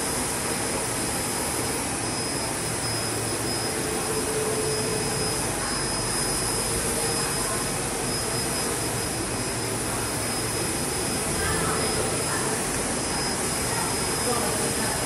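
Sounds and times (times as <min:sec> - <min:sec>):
printer machine hiss: 0:00.0 - 0:15.0
thin high whine: 0:00.0 - 0:15.0.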